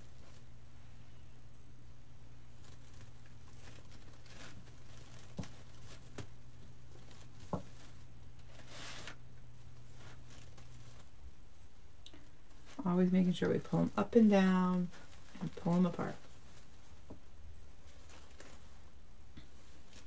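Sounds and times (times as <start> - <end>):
steady low hum: 0.0 - 20.0
ribbon rustling and crinkling: 2.4 - 20.0.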